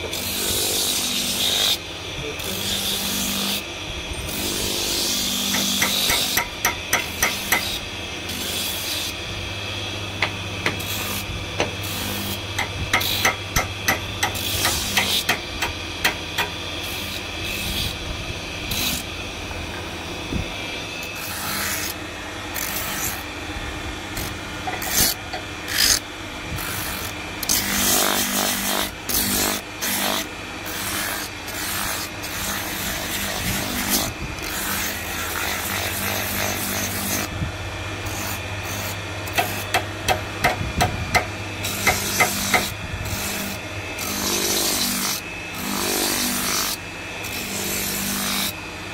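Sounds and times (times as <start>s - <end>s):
drum sander motor hum: 0.0s - 48.9s.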